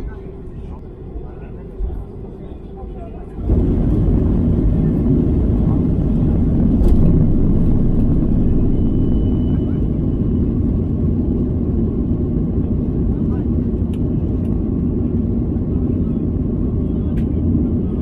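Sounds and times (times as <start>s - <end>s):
airliner engine rumble: 0.0s - 18.0s.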